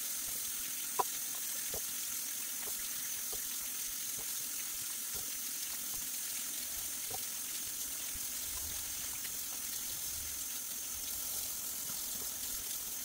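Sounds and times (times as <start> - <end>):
faucet water splashing: 0.0 - 13.0.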